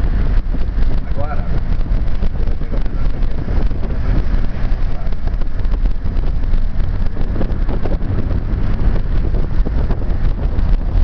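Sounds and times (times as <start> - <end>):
vehicle running: 0.0 - 11.0
wind buffeting microphone: 0.0 - 11.0.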